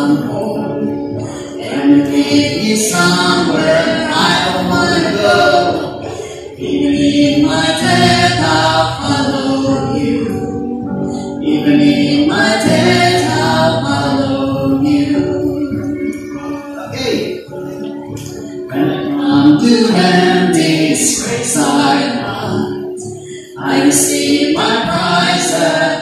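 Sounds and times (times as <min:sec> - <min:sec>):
acoustic guitar: 0:00.0 - 0:26.0
man and woman singing: 0:00.0 - 0:26.0.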